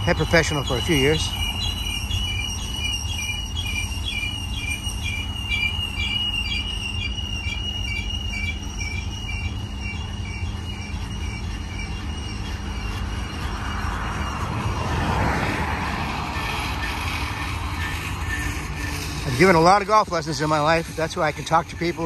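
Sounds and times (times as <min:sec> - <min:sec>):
high wheel squeal: 0:00.0 - 0:22.0
rhythmic high pulsing: 0:00.0 - 0:22.0
train cars rumbling on rails: 0:00.0 - 0:22.0.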